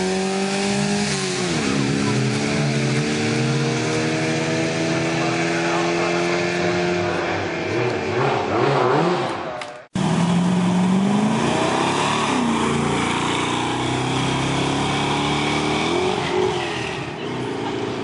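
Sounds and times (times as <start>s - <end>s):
car accelerating away: 0.0s - 18.0s
car engine revving in blips: 0.0s - 18.0s.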